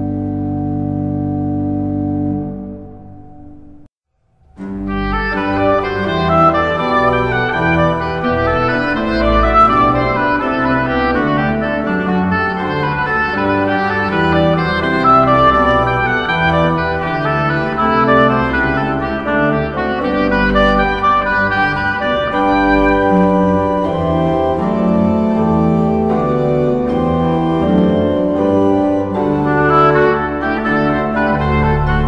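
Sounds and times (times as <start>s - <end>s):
instrumental background music: 4.5s - 32.0s.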